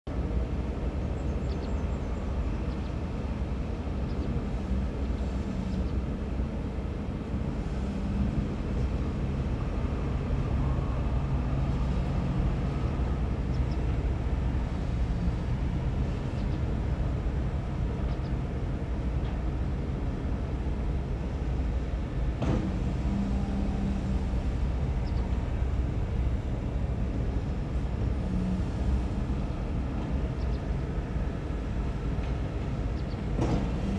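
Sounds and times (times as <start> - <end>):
heavy diesel engines rumbling: 0.1 - 33.9.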